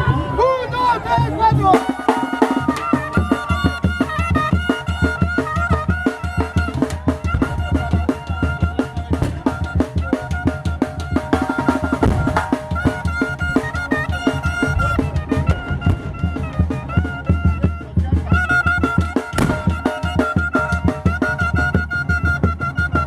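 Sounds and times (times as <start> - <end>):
fast steady drum beat: 0.0 - 23.0
high flute melody: 0.0 - 23.0.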